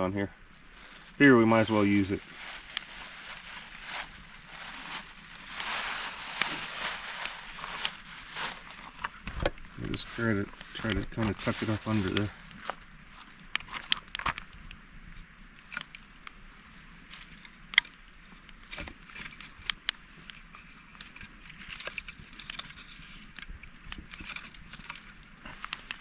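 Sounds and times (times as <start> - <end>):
campfire crackling: 0.0 - 26.0
fire snaps and pops: 0.8 - 16.5, 17.1 - 26.0.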